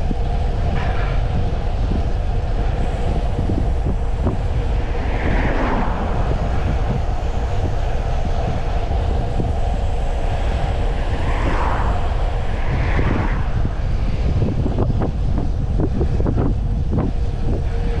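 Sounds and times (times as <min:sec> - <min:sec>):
high whoosh: 0:00.0 - 0:16.4
wind buffeting microphone: 0:00.0 - 0:18.0.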